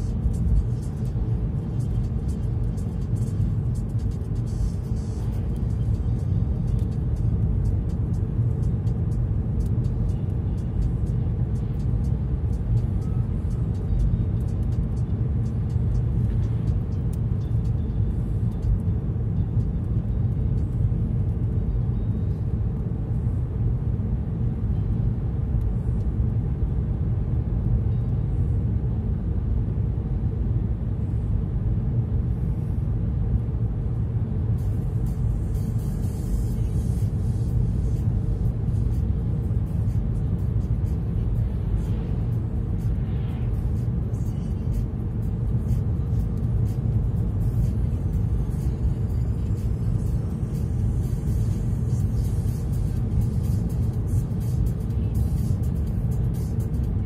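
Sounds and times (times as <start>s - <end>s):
car driving on highway: 0.0s - 57.0s.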